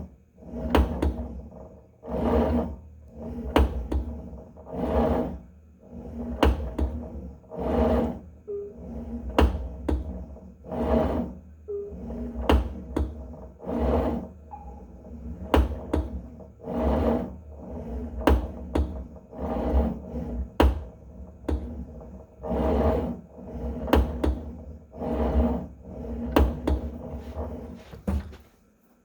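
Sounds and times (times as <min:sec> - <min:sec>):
gym cable whirring: 0:00.0 - 0:28.4
steady low hum: 0:00.0 - 0:29.0.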